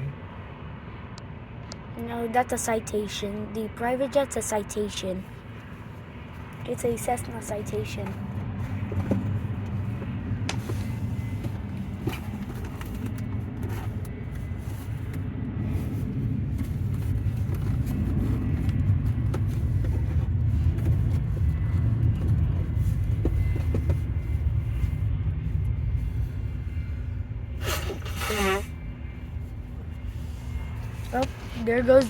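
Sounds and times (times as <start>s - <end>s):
distant jet engines rumbling: 0.0s - 32.0s.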